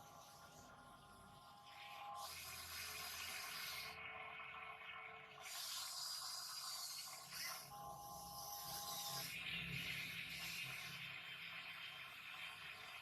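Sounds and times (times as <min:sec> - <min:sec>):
small motor whine: 0:00.0 - 0:13.0.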